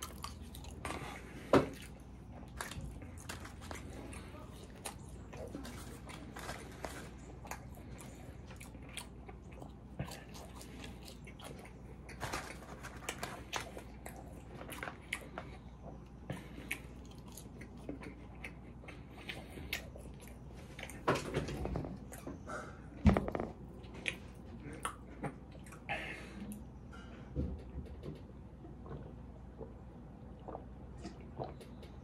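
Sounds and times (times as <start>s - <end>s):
person chewing fries: 0.0s - 26.2s, 28.6s - 32.0s.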